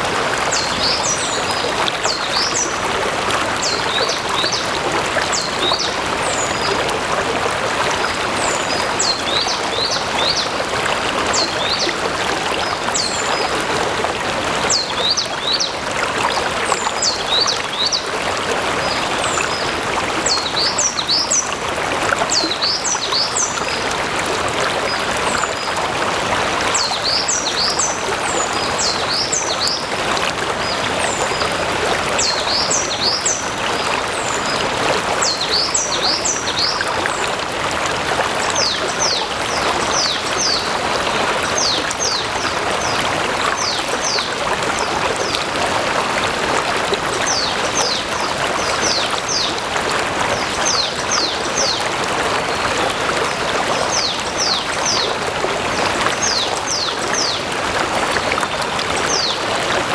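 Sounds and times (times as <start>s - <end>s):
stream water flowing and splashing: 0.0s - 59.9s.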